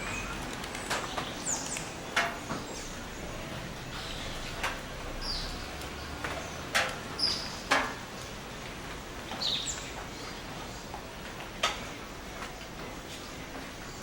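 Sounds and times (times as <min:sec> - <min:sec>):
birds chirping: 0:00.0 - 0:14.0
forest background hiss: 0:00.0 - 0:14.0.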